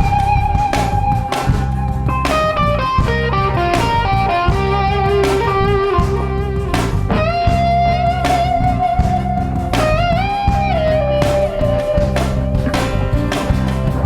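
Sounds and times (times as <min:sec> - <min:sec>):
bass and drum groove: 0:00.0 - 0:14.0
electric guitar lead: 0:00.0 - 0:14.0.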